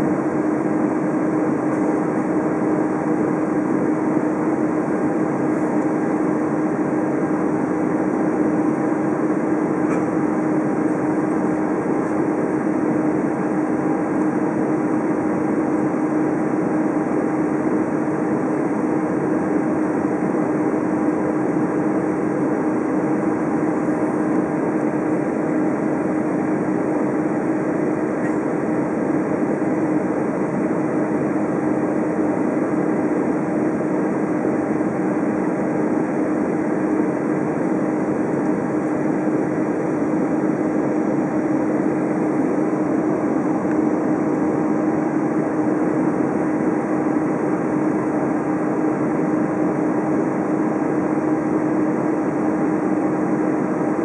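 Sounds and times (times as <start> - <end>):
jet engine drone: 0.0 - 54.0.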